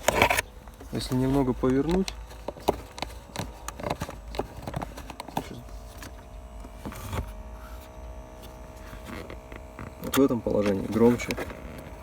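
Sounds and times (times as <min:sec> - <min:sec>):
small fan humming: 0:00.0 - 0:12.0.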